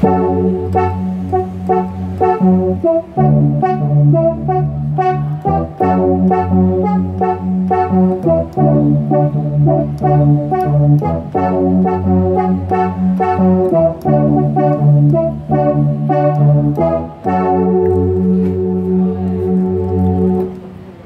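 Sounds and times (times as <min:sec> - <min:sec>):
keyboard playing sustained chords: 0:00.0 - 0:21.0.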